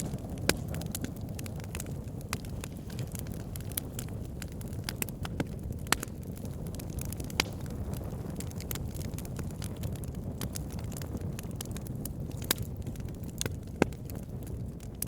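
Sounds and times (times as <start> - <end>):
burning logs crackling: 0.0 - 15.0.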